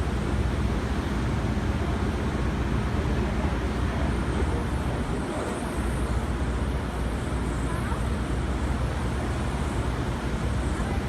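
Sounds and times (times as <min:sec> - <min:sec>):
subway wheels rumbling on rail: 0:00.0 - 0:11.0.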